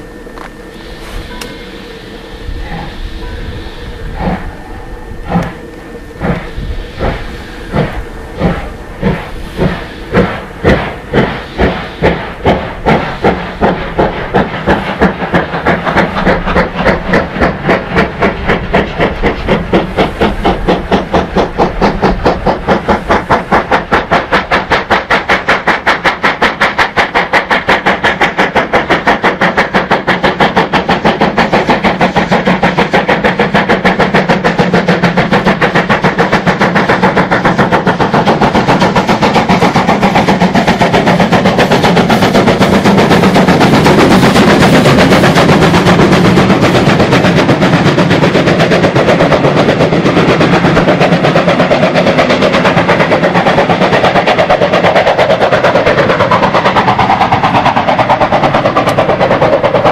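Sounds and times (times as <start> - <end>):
steam locomotive exhaust chuffing: 0.0 - 59.9
steam hissing from drain cocks: 0.6 - 59.9.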